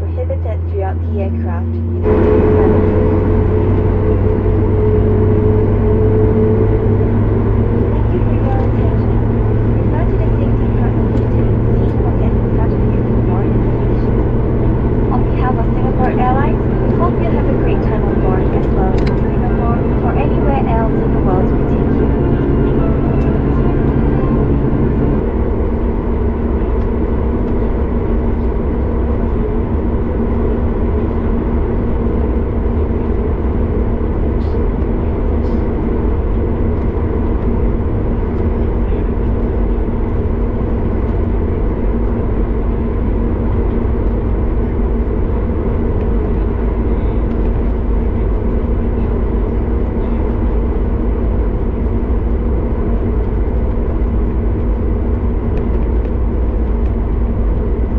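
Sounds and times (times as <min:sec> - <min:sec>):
airplane cabin engine rumble: 0:00.0 - 0:57.9.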